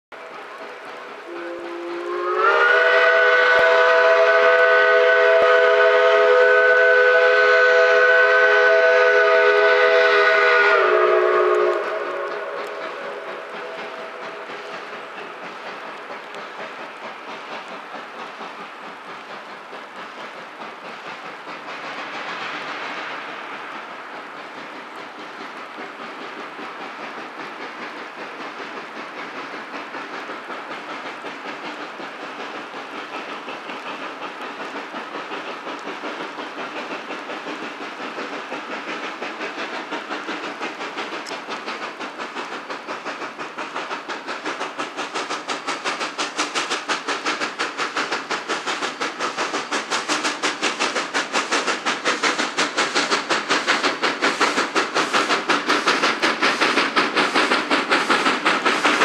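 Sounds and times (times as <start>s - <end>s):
steam locomotive chuffing: 0.1s - 59.0s.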